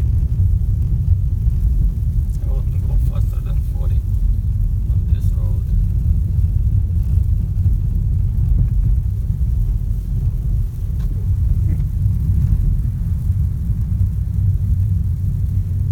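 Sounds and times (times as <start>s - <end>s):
car driving low rumble: 0.0s - 15.9s.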